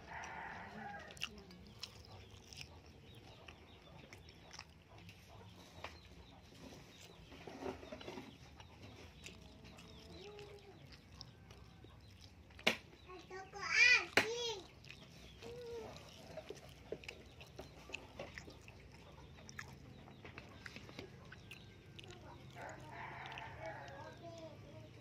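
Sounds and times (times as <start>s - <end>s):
chicken clucking: 0.0s - 13.7s, 14.7s - 25.0s.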